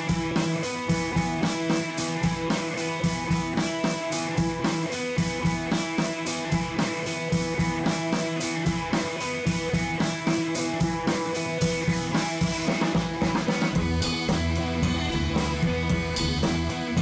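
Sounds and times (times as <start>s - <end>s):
instrumental music with drum beat: 0.0s - 17.0s.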